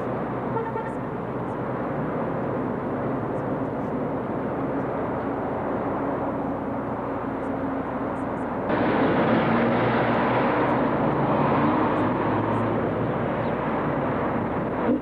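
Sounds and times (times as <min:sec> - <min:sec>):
passing cars: 0:00.0 - 0:15.0.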